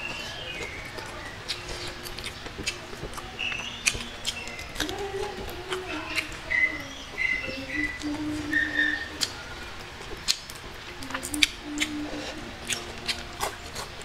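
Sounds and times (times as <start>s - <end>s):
bird chirps: 0.0s - 13.6s
bird cooing: 0.0s - 14.0s
mouth chewing food: 0.0s - 14.0s.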